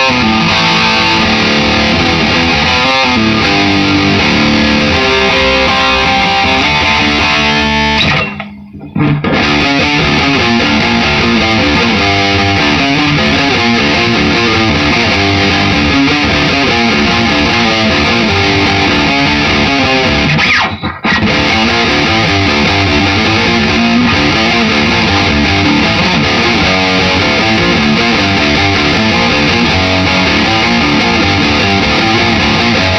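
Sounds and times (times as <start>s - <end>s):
distorted electric guitar riffing: 0.0s - 32.9s.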